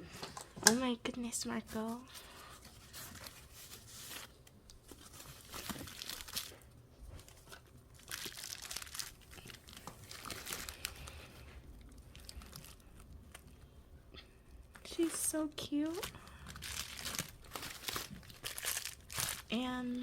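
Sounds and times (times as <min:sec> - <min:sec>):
packaging crinkling and tearing: 0:01.7 - 0:13.6, 0:14.7 - 0:19.5.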